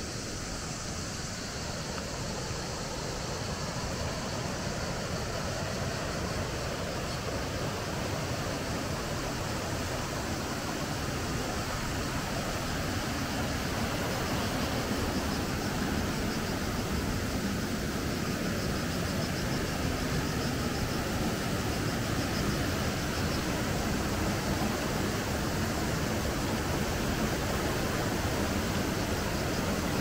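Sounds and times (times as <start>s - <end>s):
river rushing over rapids: 0.0s - 30.0s.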